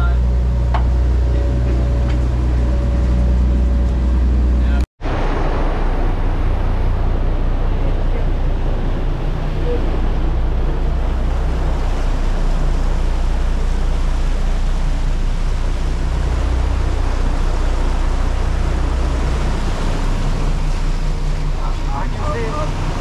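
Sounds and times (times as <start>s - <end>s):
boat engines droning: 0.0s - 23.0s
wind and water rushing: 0.0s - 23.0s.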